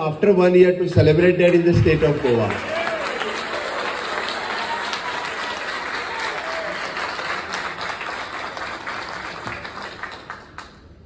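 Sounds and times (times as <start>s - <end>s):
audience applauding: 1.0s - 11.0s.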